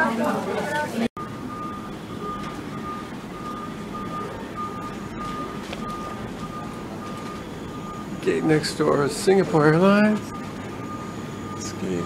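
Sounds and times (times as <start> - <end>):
steady low rumble: 1.2 - 11.6
warning beeper: 1.2 - 12.0.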